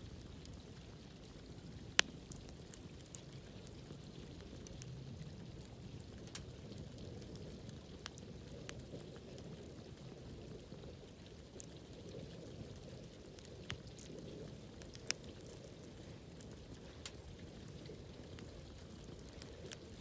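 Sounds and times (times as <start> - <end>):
campfire flames rushing: 0.0 - 20.0
fire crackling and popping: 0.0 - 20.0.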